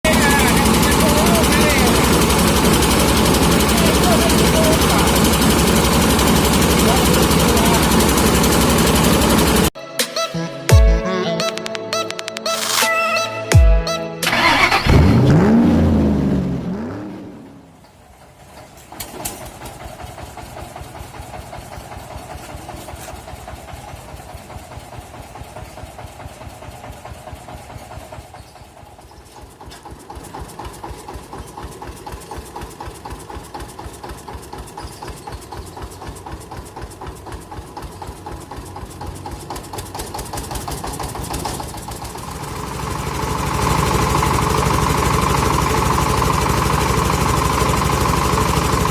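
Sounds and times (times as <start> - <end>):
rice mill engine pulsing: 0.0 - 9.8, 17.9 - 48.9.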